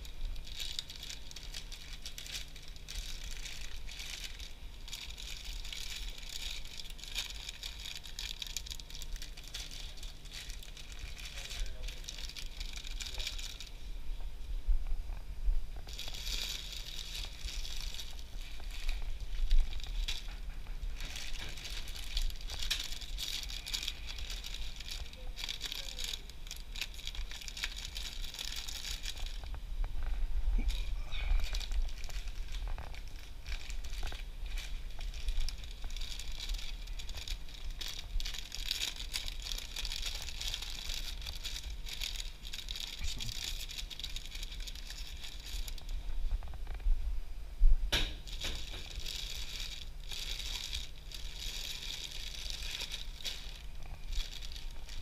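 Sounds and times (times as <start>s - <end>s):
plastic bags crinkling: 0.0s - 13.9s, 15.7s - 46.9s, 47.9s - 55.0s
low steady hum: 0.0s - 55.0s.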